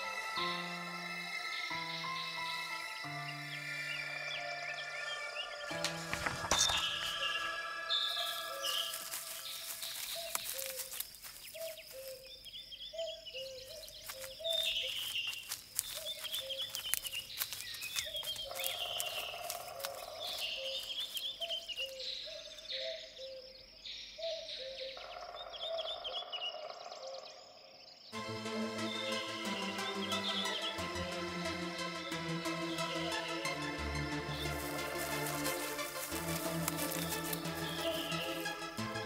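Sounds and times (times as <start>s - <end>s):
high chirping birdsong: 0.0s - 39.0s.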